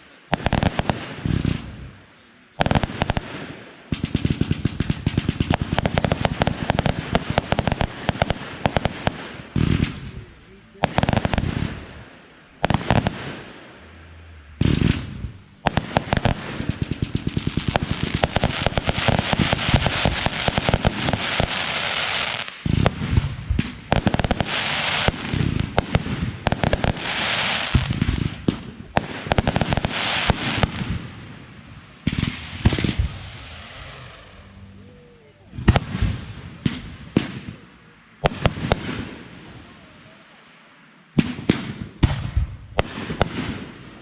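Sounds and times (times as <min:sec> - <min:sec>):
fireworks popping and crackling: 0:00.0 - 0:13.9, 0:14.5 - 0:34.6, 0:35.5 - 0:44.0
firework bangs: 0:00.0 - 0:34.6, 0:35.5 - 0:40.2, 0:41.1 - 0:44.0.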